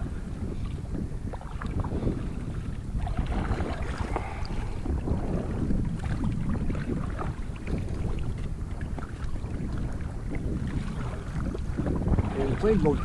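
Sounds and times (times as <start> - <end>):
water splashing around kayak: 0.0 - 13.0
wind rumbling on microphone: 0.0 - 13.0.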